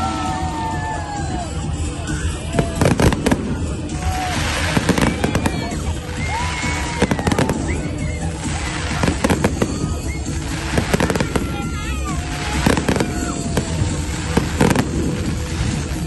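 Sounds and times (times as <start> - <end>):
fireworks bangs and crackle: 0.0 - 16.0
show music playing: 0.0 - 16.0.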